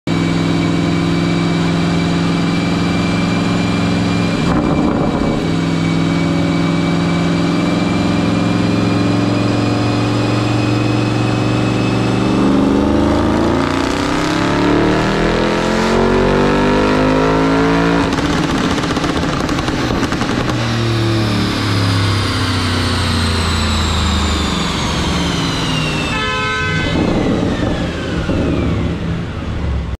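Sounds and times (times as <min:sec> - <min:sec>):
car engine revving on dyno: 0:00.1 - 0:29.9
rollers and tyres whining: 0:00.2 - 0:13.9, 0:18.0 - 0:30.0.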